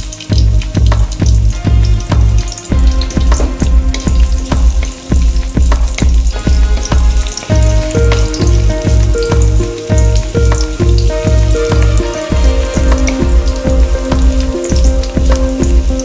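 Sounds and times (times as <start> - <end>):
background music with bass beat: 0.0 - 16.0
garlic sizzling in hot oil: 0.0 - 16.0.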